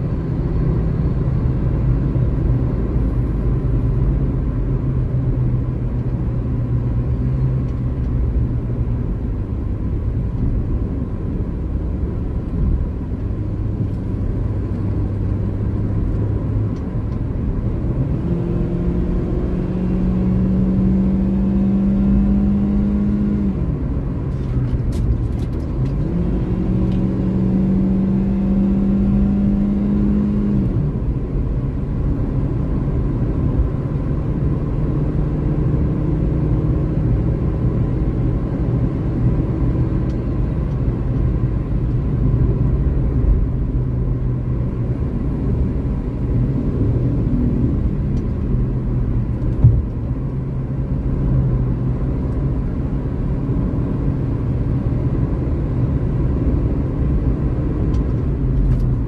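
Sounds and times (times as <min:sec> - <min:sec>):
car engine drone: 0:00.0 - 0:59.0
road noise inside car: 0:00.0 - 0:59.0.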